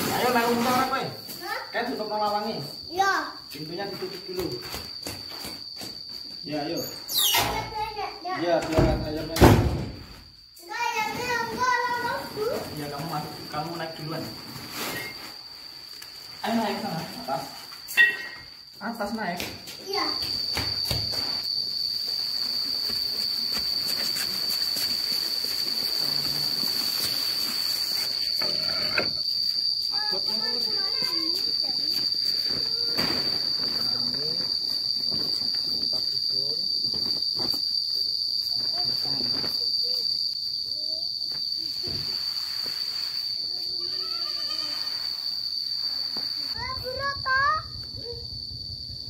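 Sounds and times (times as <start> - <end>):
high-pitched insect drone: 0.0 - 49.0.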